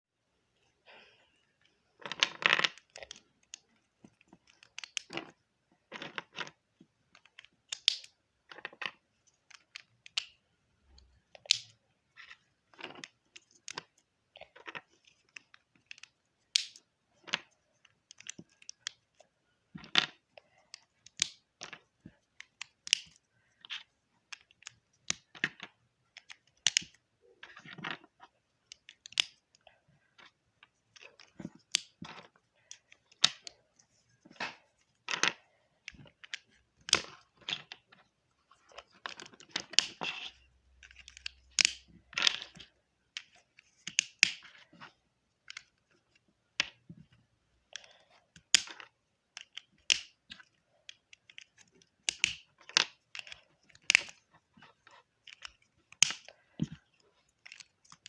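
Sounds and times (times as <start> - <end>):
plastic bricks clicking: 2.0 - 33.6, 38.6 - 45.9, 46.5 - 58.0.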